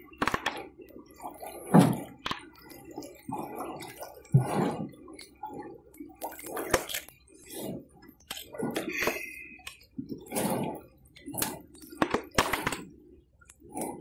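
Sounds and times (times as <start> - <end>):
river water splashing: 0.0 - 13.4.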